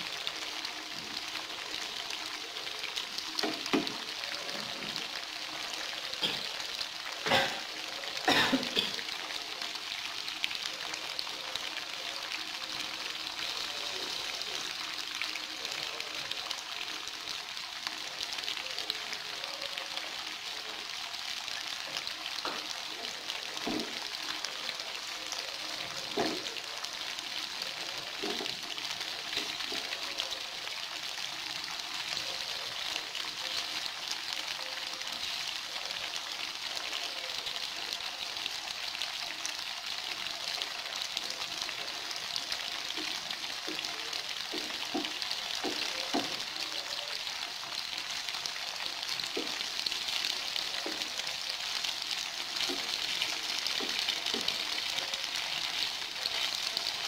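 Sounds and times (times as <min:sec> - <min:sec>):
tofu sizzling in hot oil: 0:00.0 - 0:57.0.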